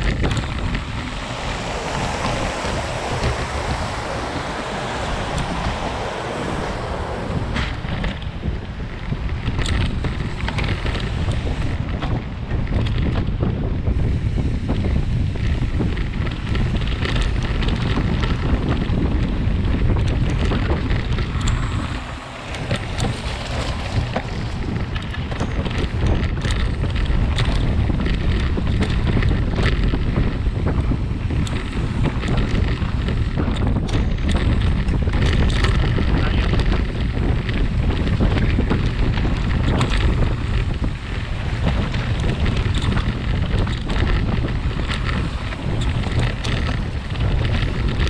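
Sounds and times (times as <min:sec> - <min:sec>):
bike clicks and rattles: 0:00.0 - 0:06.8, 0:07.5 - 0:48.0
bike tyres rolling over dirt: 0:00.0 - 0:48.0
wind rushing over microphone: 0:00.0 - 0:48.0.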